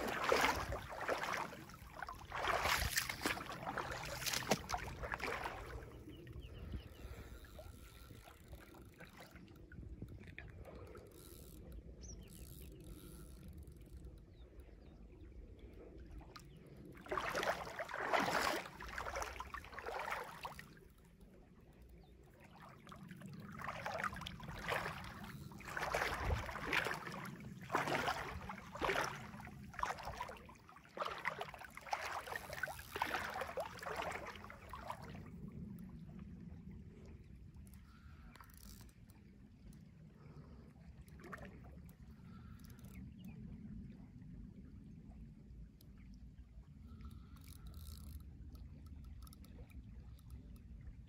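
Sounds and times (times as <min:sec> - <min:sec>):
water splashing and sloshing: 0:00.0 - 0:51.0.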